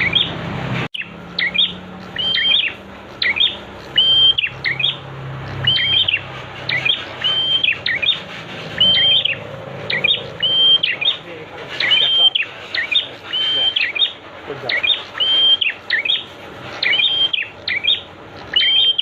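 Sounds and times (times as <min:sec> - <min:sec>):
bird singing whistles and chirps: 0:00.0 - 0:00.4, 0:01.0 - 0:05.0, 0:05.6 - 0:19.0
steady background noise: 0:00.0 - 0:19.0.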